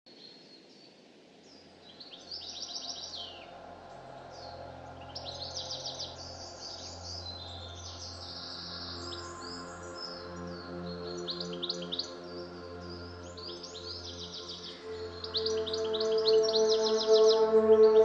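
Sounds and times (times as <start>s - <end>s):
birds singing: 0.1s - 18.0s.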